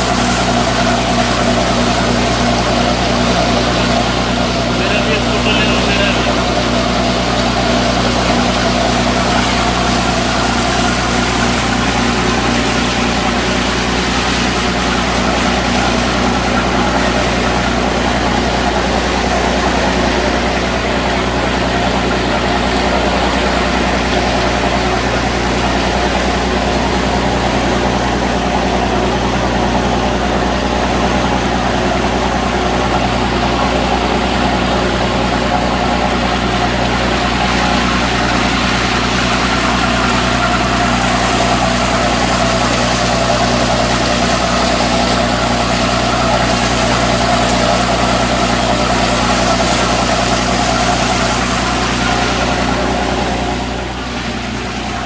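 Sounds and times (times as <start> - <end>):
boat engine humming: 0.0 - 55.0
water rushing: 0.0 - 55.0.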